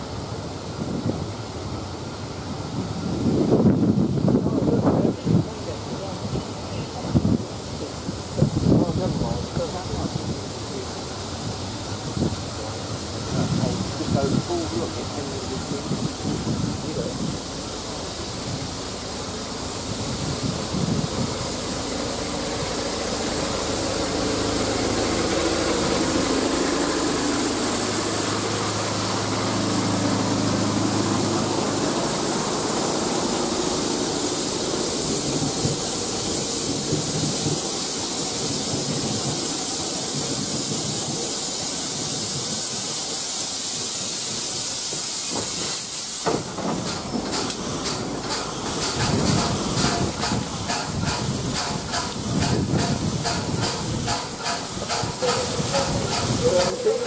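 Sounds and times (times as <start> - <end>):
steam hissing: 0.0 - 57.0
train wheels on rails: 0.0 - 57.0.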